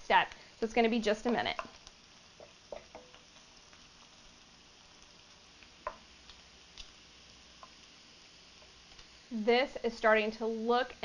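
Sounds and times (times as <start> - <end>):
faint frying sizzle: 0.0 - 11.0.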